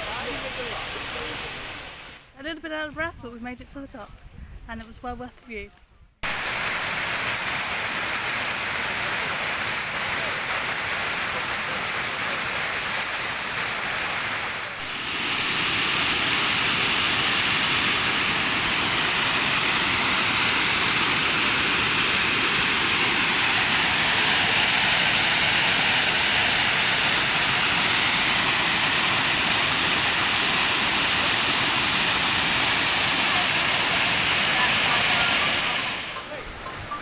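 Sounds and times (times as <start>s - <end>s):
waterfall rushing: 0.0s - 2.3s, 6.2s - 37.0s.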